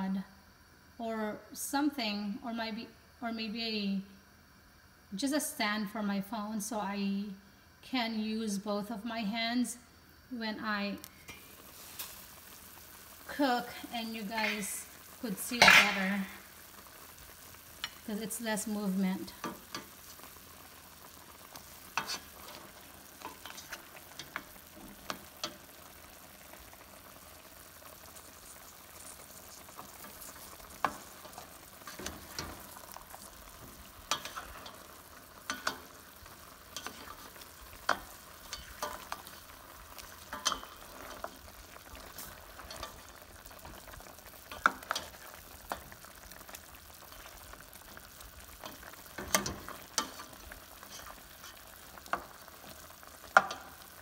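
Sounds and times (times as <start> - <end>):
chicken sizzling in sauce: 10.0 - 54.0.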